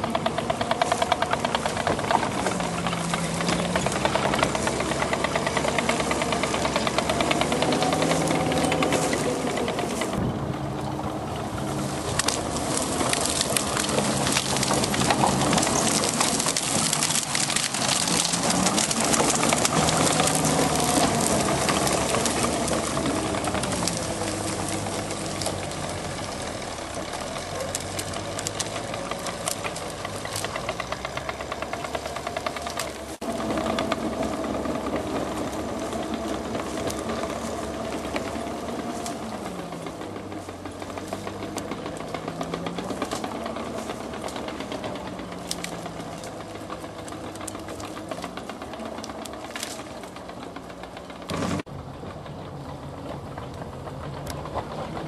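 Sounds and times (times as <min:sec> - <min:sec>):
track clatter: 0:00.0 - 0:55.0
tracked vehicle engine: 0:00.0 - 0:55.0.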